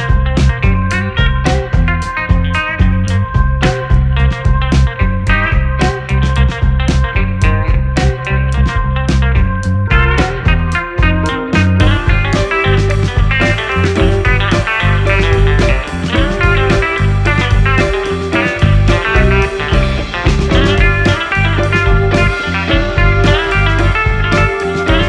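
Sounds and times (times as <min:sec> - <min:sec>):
blues-rock music with electric guitar: 0:00.0 - 0:25.0.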